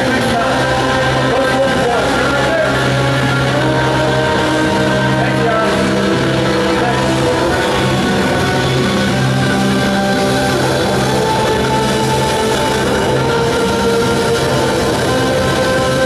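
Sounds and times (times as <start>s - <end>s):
electric guitars holding long notes: 0.0s - 16.0s.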